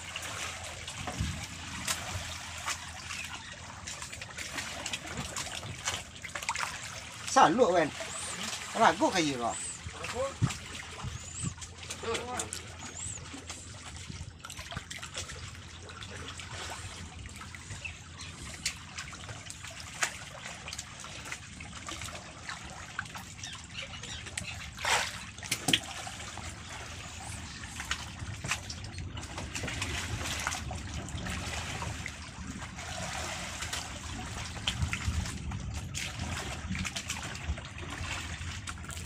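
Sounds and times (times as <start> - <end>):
water lapping against boat: 0.0 - 39.0.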